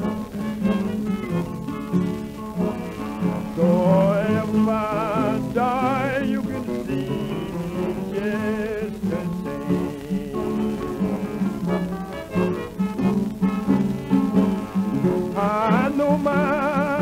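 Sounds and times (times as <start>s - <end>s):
accordion melody: 0.0s - 17.0s
plucked guitar: 0.0s - 17.0s.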